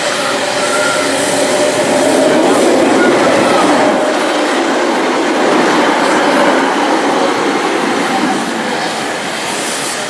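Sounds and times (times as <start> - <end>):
train running on track: 0.0 - 10.0.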